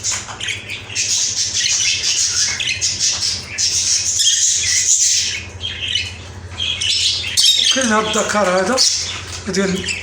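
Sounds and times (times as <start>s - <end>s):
budgerigars chattering and squawking: 0.0s - 10.0s
steady low hum: 0.0s - 10.0s.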